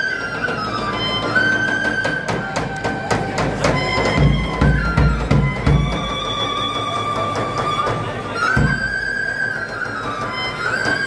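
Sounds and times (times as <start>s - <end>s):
held folk melody line: 0.0s - 11.0s
drum beats: 0.3s - 11.0s.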